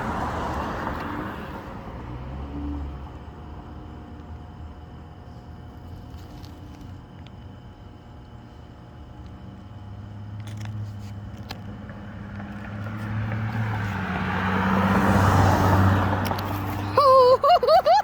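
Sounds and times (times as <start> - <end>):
steady low hum: 1.4 - 18.0.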